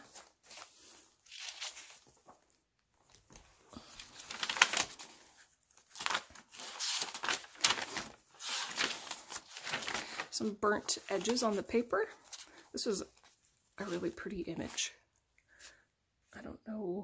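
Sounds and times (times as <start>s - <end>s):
paper pages rustling and crinkling: 0.0s - 15.0s.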